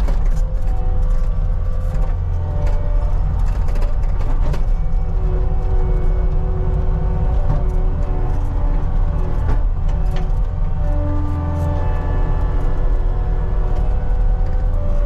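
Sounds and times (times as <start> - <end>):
clanks and rattles: 0.0 - 15.0
track loader diesel engine: 0.0 - 15.0.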